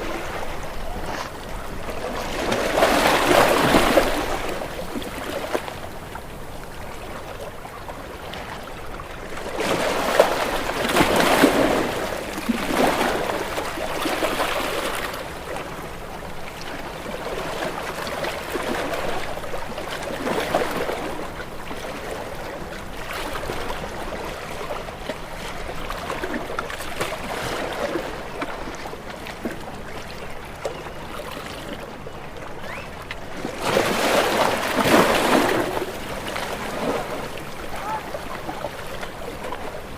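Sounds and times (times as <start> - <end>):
ocean waves breaking on rocks: 0.0 - 7.4, 8.0 - 15.7, 16.7 - 39.9.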